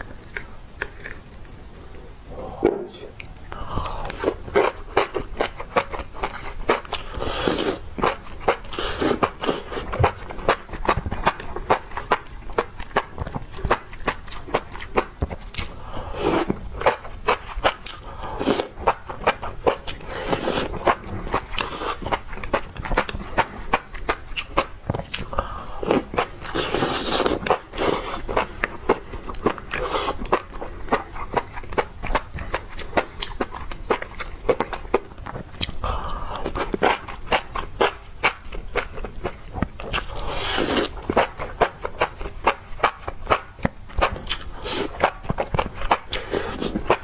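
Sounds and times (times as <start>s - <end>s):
person chewing mushrooms: 0.0s - 47.0s.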